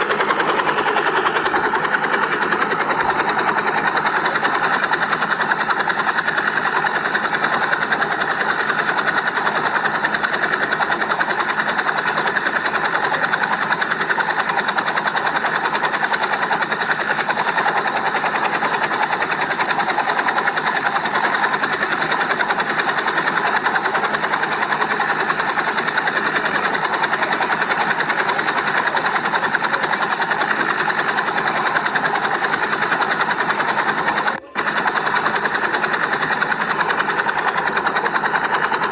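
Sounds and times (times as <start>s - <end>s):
small motor whirring: 0.0s - 38.9s.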